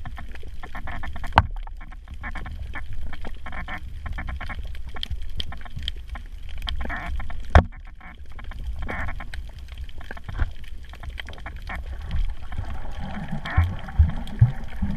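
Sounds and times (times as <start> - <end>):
low underwater rumble: 0.0 - 14.9
small clicks and crackles: 0.0 - 14.9.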